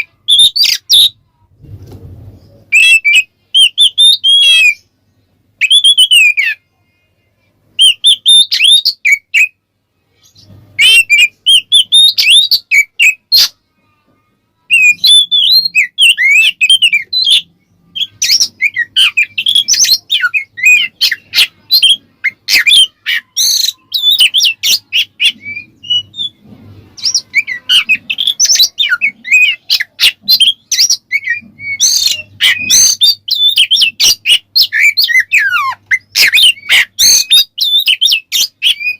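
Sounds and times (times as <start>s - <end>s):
magpie-robin singing: 0.0s - 1.2s, 2.6s - 4.9s, 5.6s - 6.7s, 7.7s - 13.6s, 14.6s - 26.4s, 27.0s - 38.9s.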